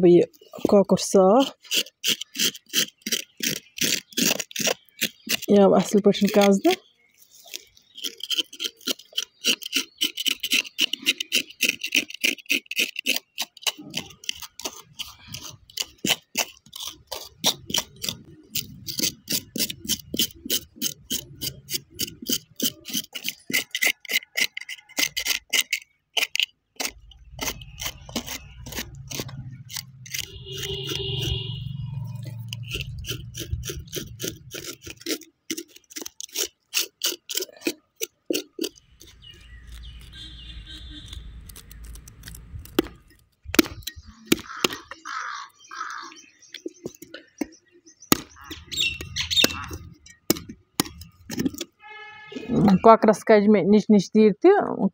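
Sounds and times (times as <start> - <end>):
knife scraping chicken skin: 1.3 - 45.2, 45.8 - 52.7.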